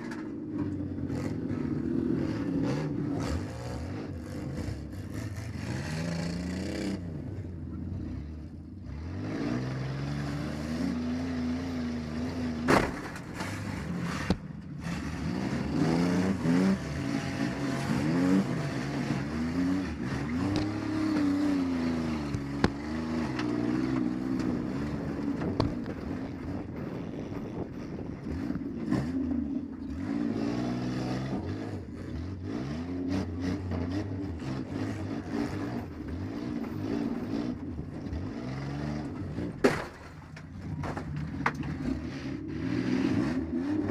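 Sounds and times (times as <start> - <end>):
minivan engine revving: 0.0 - 43.9.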